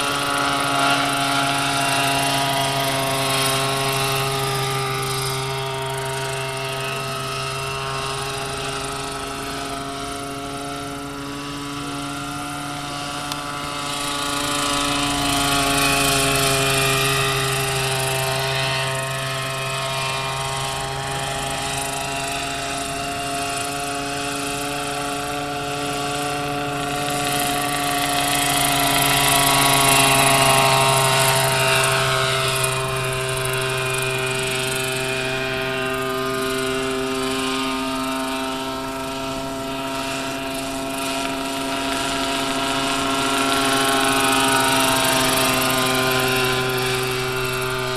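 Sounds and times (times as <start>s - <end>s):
model helicopter flying: 0.0s - 47.9s.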